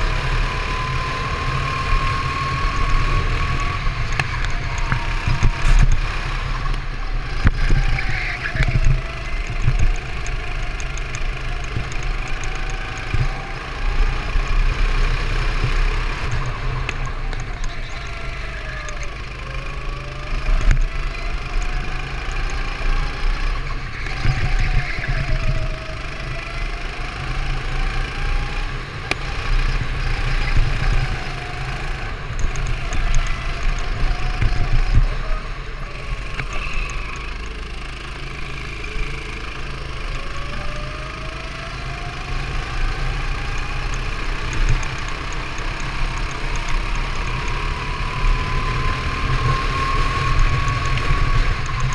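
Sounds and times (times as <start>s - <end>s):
go-kart engine racing: 0.0s - 51.9s.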